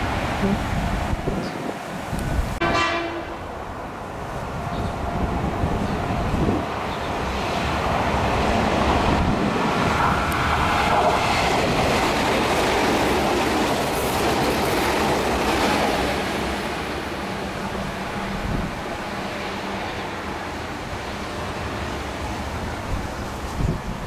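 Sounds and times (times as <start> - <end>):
electric train passing at speed: 0.0 - 24.0.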